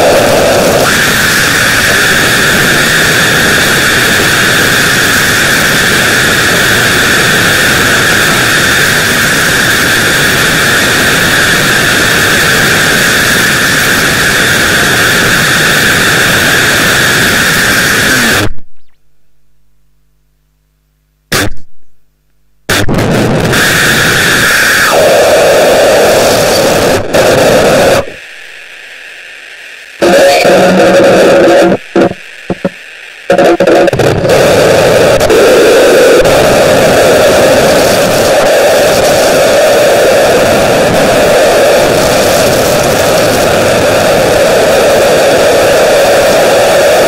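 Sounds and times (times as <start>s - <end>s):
high electronic drone: 0.0s - 19.4s, 21.3s - 22.0s, 22.7s - 28.7s, 29.8s - 47.0s
static-like electronic noise: 0.0s - 47.0s.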